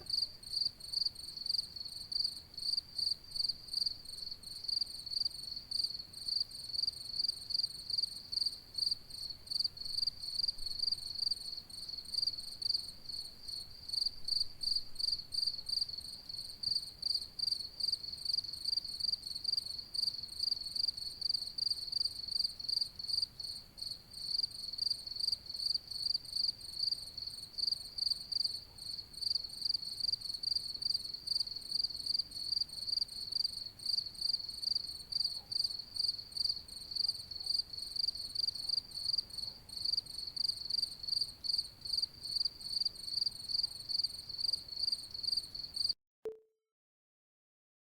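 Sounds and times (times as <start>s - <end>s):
cricket chirping: 0.1s - 45.9s.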